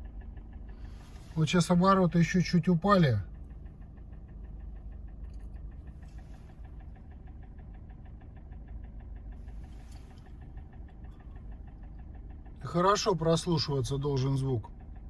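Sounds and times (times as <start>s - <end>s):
car engine idling: 0.0s - 15.0s
ringing engine tick-knock: 0.0s - 15.0s.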